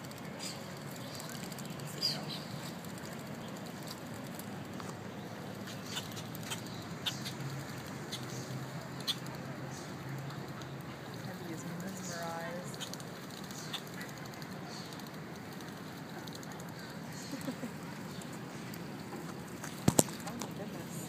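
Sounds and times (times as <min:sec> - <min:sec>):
birds splashing in water: 0:00.0 - 0:21.0.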